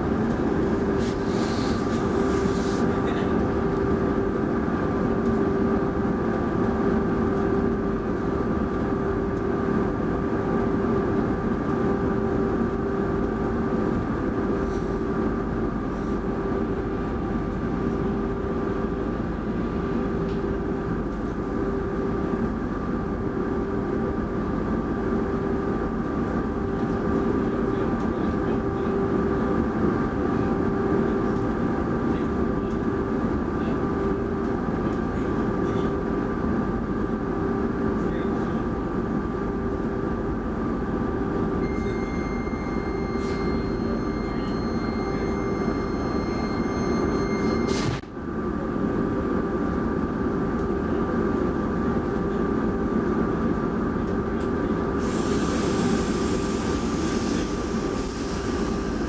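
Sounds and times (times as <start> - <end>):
train equipment humming: 0.0 - 59.0.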